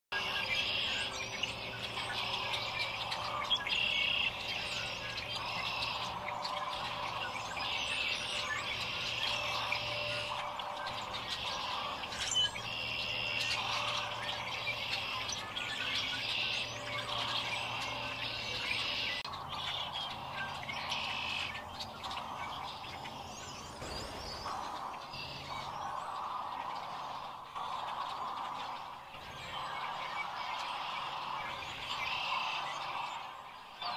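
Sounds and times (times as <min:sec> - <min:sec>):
flock of cranes calling: 0:00.1 - 0:33.9.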